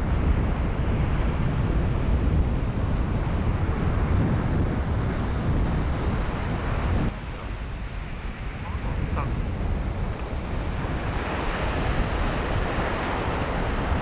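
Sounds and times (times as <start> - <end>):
rough surf breaking: 0.0 - 14.0
wind buffeting microphone: 0.0 - 14.0.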